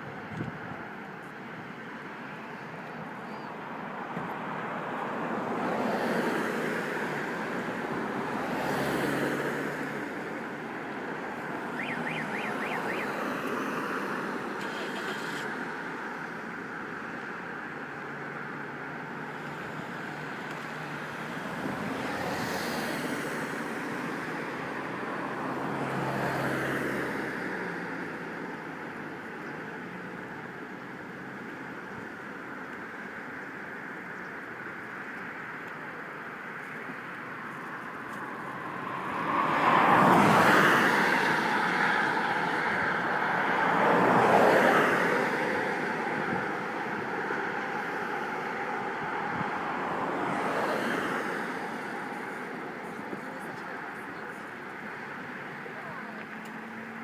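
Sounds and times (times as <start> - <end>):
cars passing by: 0.0 - 57.0.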